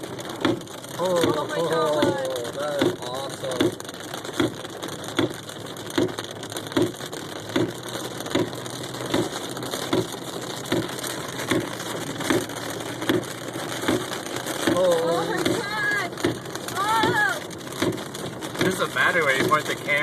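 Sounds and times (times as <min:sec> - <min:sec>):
heavy rain on car: 0:00.0 - 0:20.0
windshield wipers thumping: 0:00.0 - 0:20.0.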